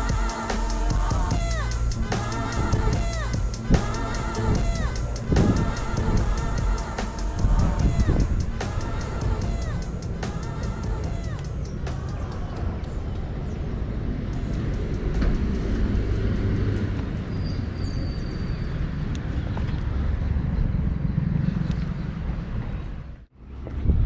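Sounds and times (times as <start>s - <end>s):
street traffic: 0.0s - 24.0s
wind rumble on microphone: 1.0s - 24.0s.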